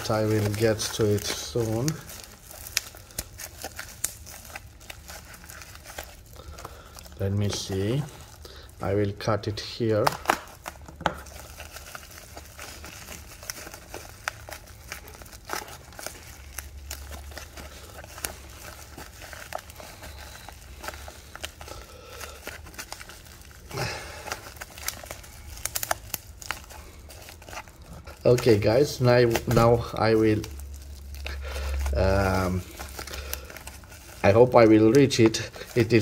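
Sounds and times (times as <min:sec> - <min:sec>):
bubble wrap crinkling and crackling: 0:00.0 - 0:36.0.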